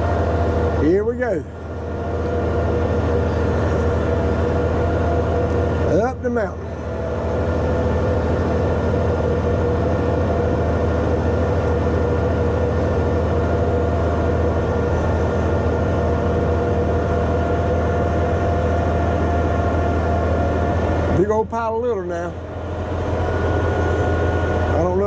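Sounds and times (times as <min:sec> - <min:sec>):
diesel engine droning under load: 0:00.0 - 0:25.0.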